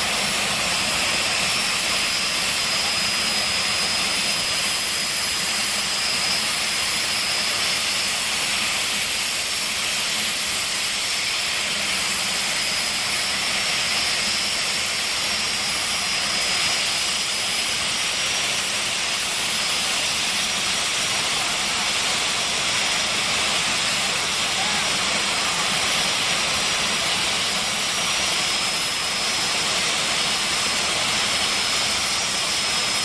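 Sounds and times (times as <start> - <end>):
high-pitched turbine whine: 0.0 - 33.0
turbine engine hiss: 0.0 - 33.0.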